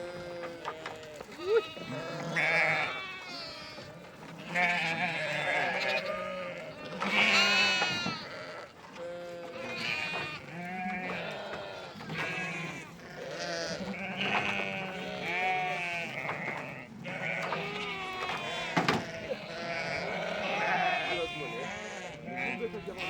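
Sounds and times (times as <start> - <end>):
sheep bleating: 0.0 - 23.0.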